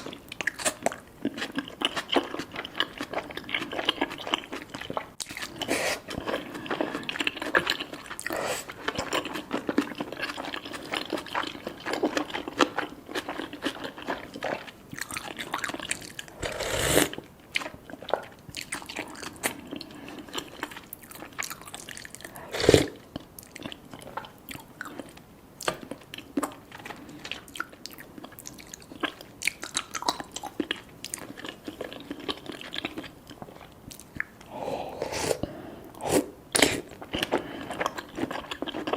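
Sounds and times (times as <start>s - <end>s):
close chewing and mouth sounds: 0.0s - 38.9s.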